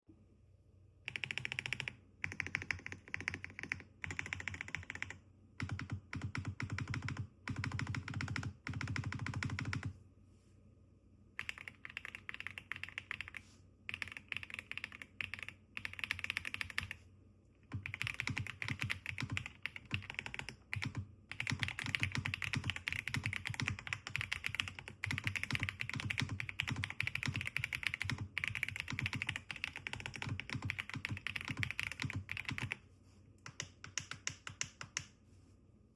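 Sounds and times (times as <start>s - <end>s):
mechanical keyboard typing: 1.1s - 9.9s, 11.4s - 17.0s, 17.7s - 32.8s, 33.4s - 35.1s.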